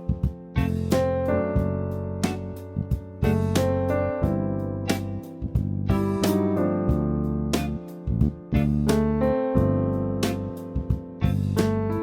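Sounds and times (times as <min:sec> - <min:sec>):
electric piano chords over a beat: 0:00.0 - 0:12.0.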